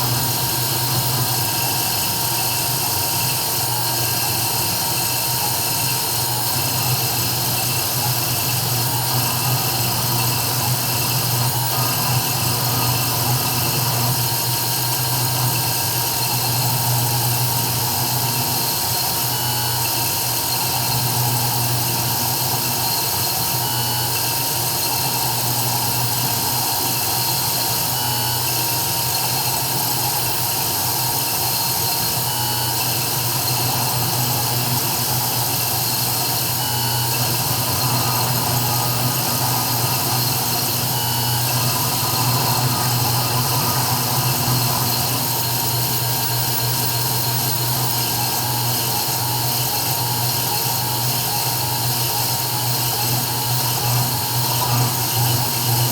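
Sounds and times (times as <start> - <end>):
router spindle humming: 0.0 - 55.9.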